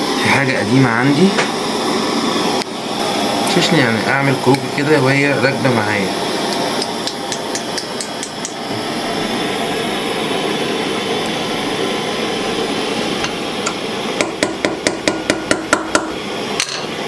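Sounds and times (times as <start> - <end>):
gas torch flame hissing: 0.0 - 17.0.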